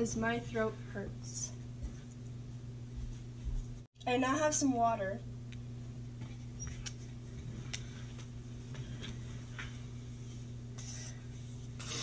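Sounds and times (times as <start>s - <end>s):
low room tone hum: 0.0s - 12.0s.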